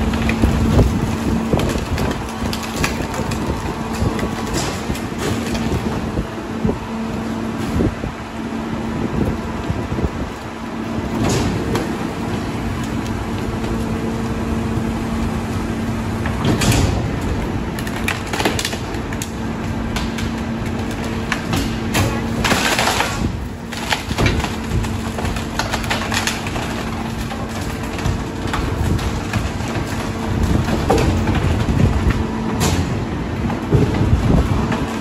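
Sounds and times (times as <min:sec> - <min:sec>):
garbage truck crushing waste: 0:00.0 - 0:35.0
truck engine drone: 0:00.0 - 0:35.0.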